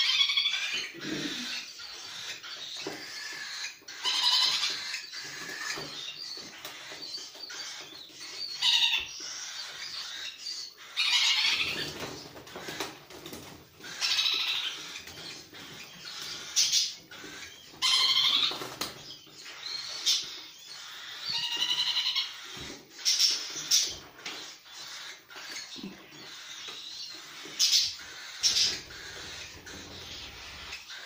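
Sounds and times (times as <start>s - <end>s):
cockatiels begging calls: 0.0s - 11.9s, 13.8s - 18.7s, 19.4s - 31.0s.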